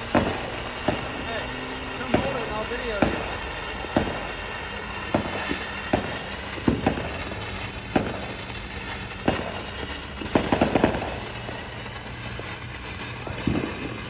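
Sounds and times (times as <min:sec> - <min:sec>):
firework hissing: 0:00.0 - 0:14.0
firework pops: 0:00.0 - 0:14.0.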